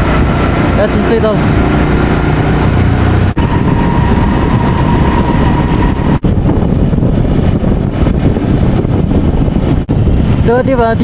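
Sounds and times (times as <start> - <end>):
motorcycle engine running: 0.0 - 10.4
road and wind noise: 0.0 - 11.0.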